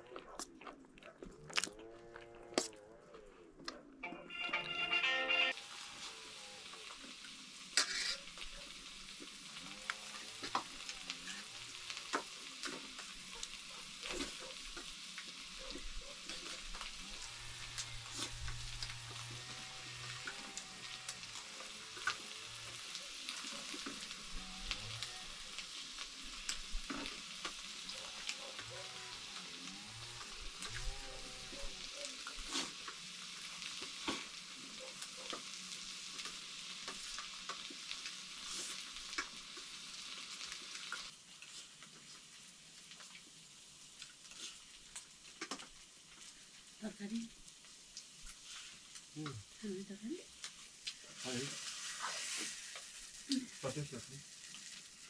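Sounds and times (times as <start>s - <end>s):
food sizzling in a pan: 4.3s - 55.0s.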